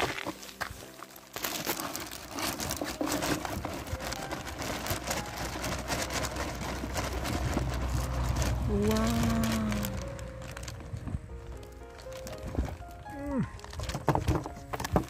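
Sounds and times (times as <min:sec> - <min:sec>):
background music with steady tones: 0:00.0 - 0:15.0
close crinkling and rustling: 0:00.0 - 0:15.0.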